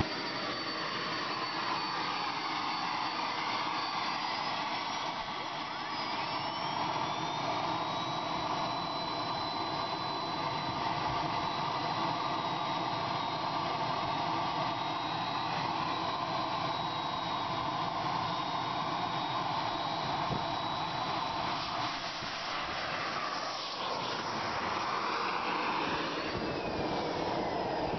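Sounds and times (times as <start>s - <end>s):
turbine engine whine: 0.0s - 27.9s.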